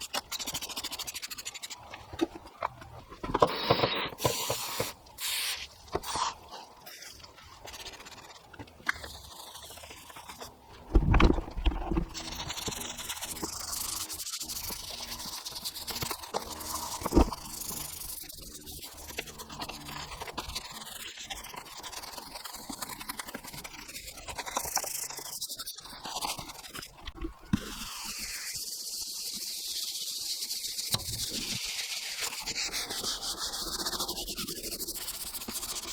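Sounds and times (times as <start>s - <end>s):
stiff brush scrubbing: 0.0s - 2.0s, 4.6s - 29.6s, 31.0s - 35.9s.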